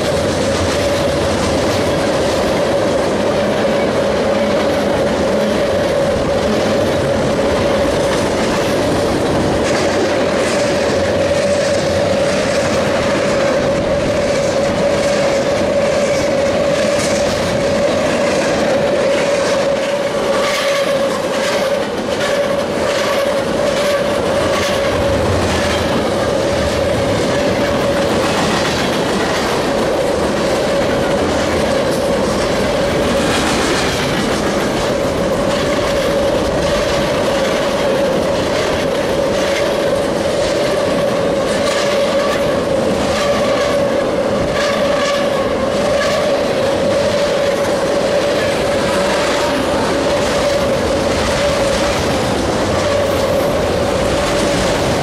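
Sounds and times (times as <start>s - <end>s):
train wheels clickety-clack: 0.0s - 55.0s.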